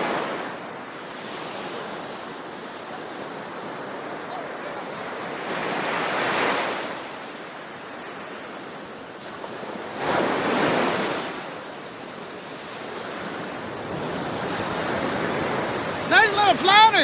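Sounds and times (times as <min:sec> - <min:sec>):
waves washing: 0:00.0 - 0:17.0.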